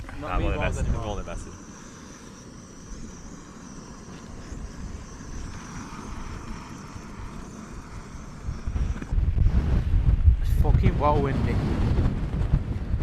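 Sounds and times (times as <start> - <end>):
faint high-pitched whine: 0.0 - 11.6
wind buffeting microphone: 0.0 - 13.0.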